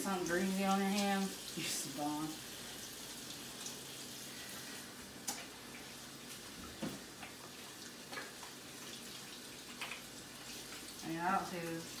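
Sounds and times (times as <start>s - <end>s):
water running in sink: 0.0s - 12.0s.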